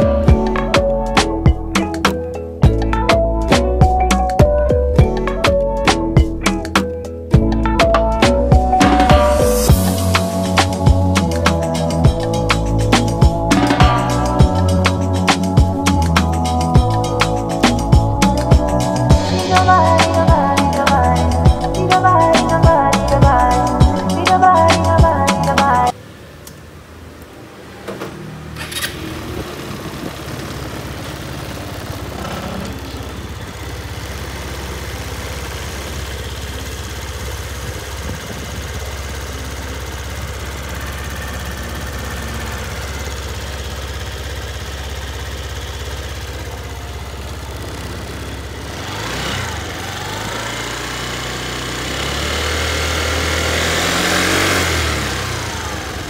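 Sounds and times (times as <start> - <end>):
scooter engine idling and revving: 0.0 - 56.0.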